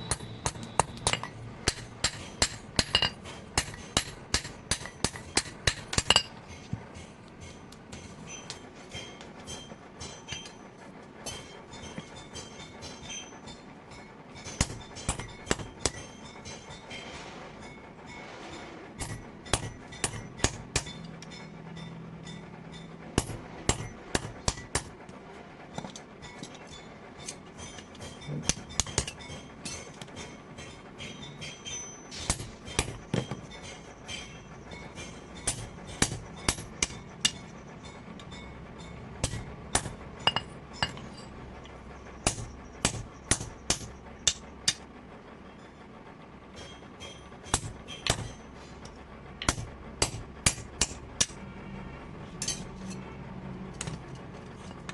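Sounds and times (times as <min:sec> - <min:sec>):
hammer striking metal on anvil: 0:00.0 - 0:10.6, 0:11.2 - 0:24.9, 0:25.8 - 0:41.4, 0:42.2 - 0:44.8, 0:46.6 - 0:48.5, 0:49.4 - 0:51.5, 0:52.4 - 0:53.1.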